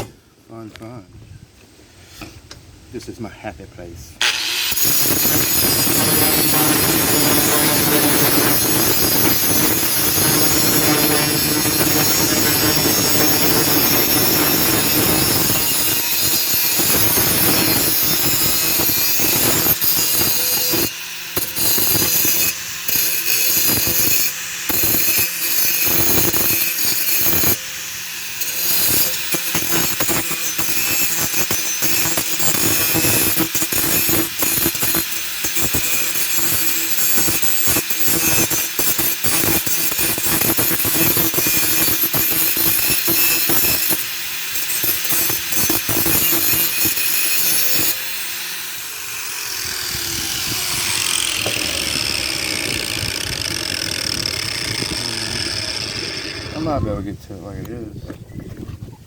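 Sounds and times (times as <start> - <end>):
hand tools rasping steel blade: 4.2 - 56.7.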